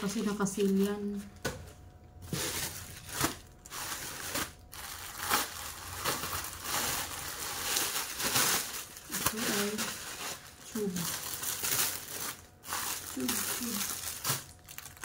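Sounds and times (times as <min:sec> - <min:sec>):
plastic packaging crinkling: 0:00.0 - 0:01.5, 0:02.2 - 0:15.0.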